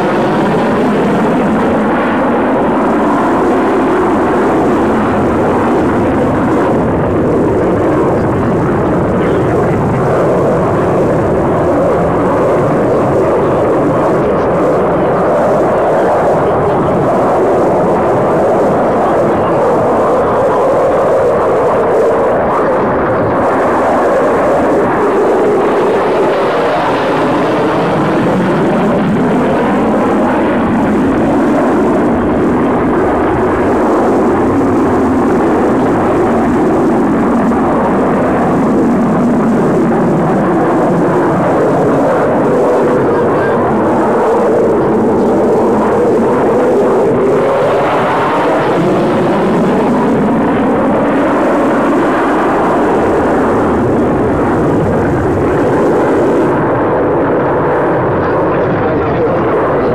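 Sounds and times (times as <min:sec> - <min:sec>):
fighter jet engines roaring: 0:00.0 - 0:59.9.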